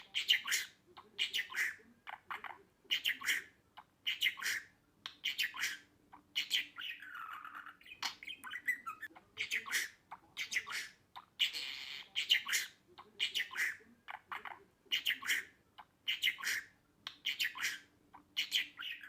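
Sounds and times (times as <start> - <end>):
budgerigar chattering: 0.0 - 19.0.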